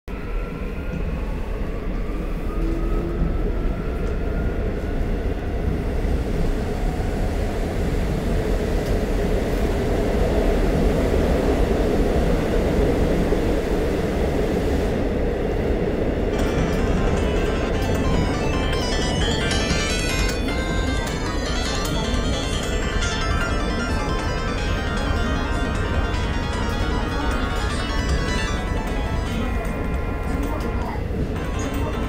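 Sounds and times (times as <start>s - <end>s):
subway train rumble: 0.1s - 32.0s.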